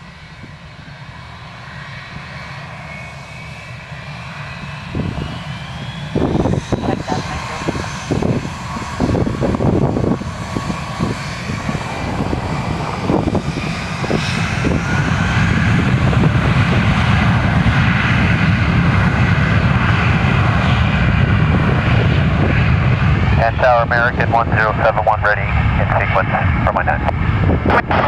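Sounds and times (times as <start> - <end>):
jet engines rumbling and whining: 0.0 - 28.0.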